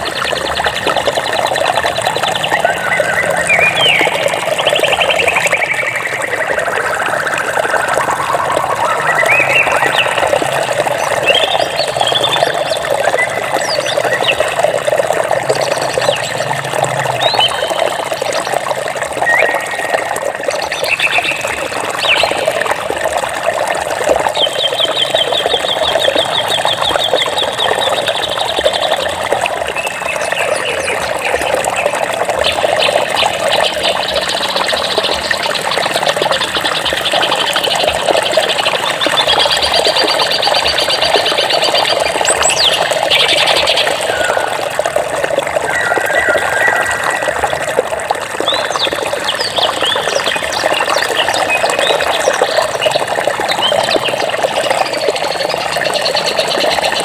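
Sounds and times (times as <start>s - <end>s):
birds chirping: 0.0s - 23.1s, 24.1s - 57.0s
flowing water: 0.0s - 57.0s.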